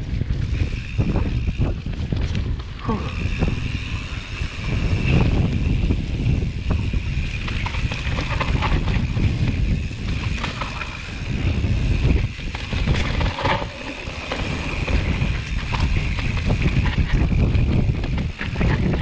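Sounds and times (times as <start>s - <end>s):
bike clicks and rattles: 0.0s - 19.0s
mountain bike rolling on dirt: 0.0s - 19.0s
wind rumbling on microphone: 0.0s - 19.0s.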